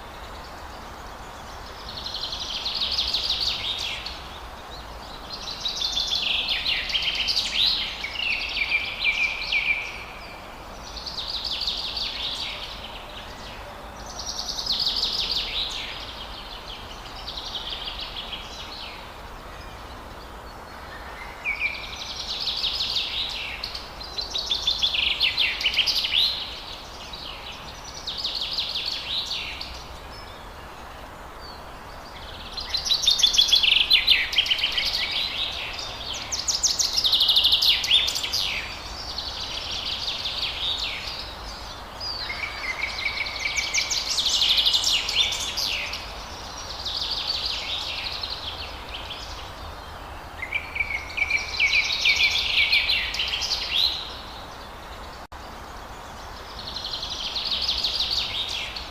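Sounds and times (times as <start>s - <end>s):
steady background hiss: 0.0s - 58.9s.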